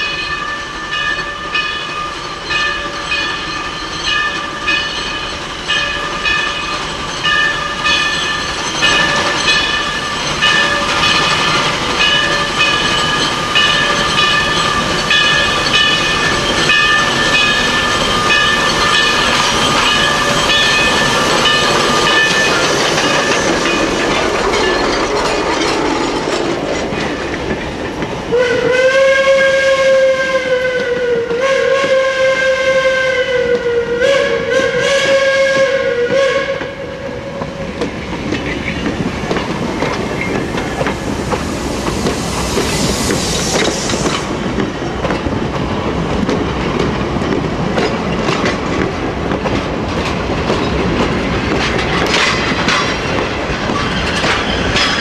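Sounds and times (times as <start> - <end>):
rail cars clickety-clack: 0.0 - 55.0
steam locomotive pulsing exhaust: 0.0 - 55.0.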